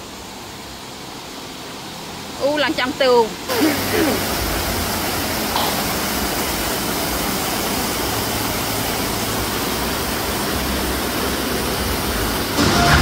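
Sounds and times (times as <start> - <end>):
fountain water splashing: 2.4 - 13.0.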